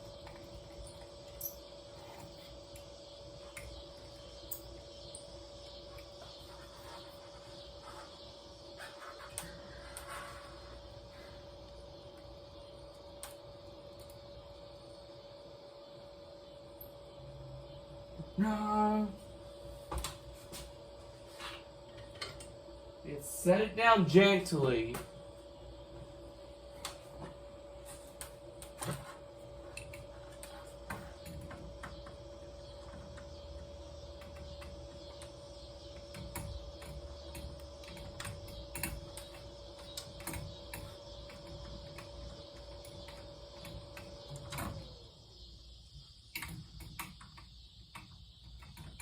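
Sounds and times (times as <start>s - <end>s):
machine hum and whine: 0.0s - 49.0s.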